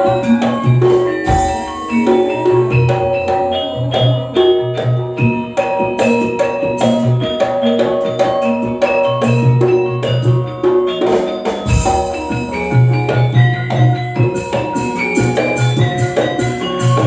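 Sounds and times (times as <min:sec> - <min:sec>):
gamelan-style metal percussion melody: 0:00.0 - 0:17.0
steady drum beat: 0:00.0 - 0:17.0.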